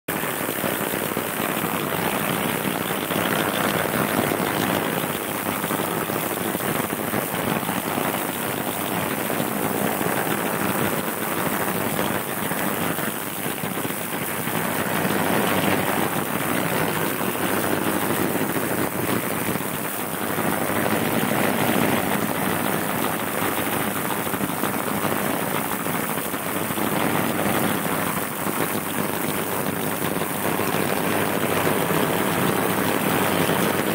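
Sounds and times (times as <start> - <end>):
ultrasonic cleaner rushing liquid: 0.1 - 33.9.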